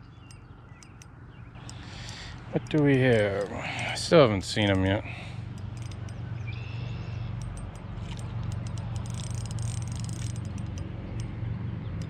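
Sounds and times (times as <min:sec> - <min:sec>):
sharp clicks: 0:00.0 - 0:12.0.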